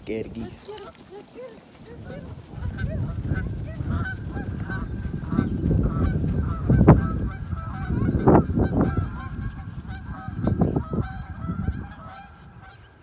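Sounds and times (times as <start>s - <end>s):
geese honking: 1.4s - 13.0s.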